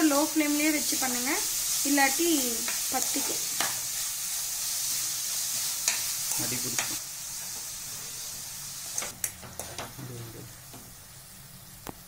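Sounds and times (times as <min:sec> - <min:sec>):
carrot sizzling in a pan: 0:00.0 - 0:12.0.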